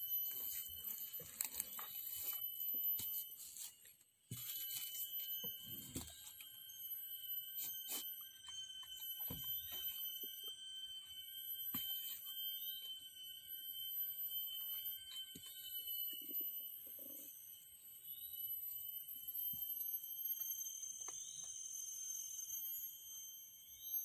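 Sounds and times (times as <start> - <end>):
shrill insect chorus: 4.6 - 24.0.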